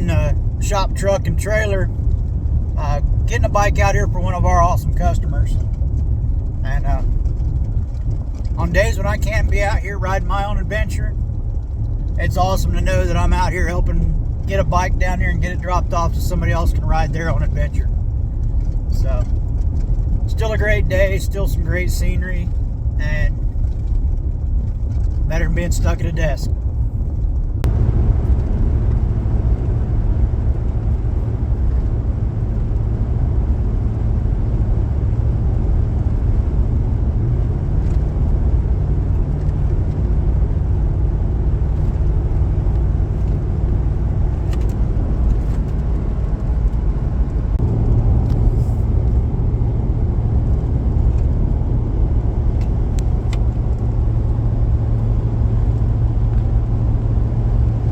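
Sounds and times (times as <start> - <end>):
truck engine and road noise drone: 0.0 - 57.9.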